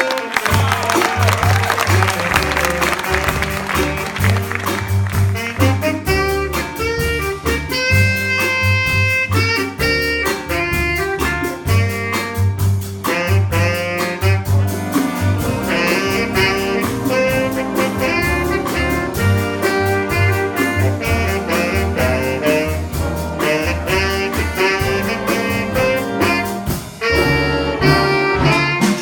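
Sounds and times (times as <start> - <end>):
saxophones and brass melody: 0.0 - 29.0
steady drum beat: 0.0 - 29.0
bass line: 0.5 - 28.8.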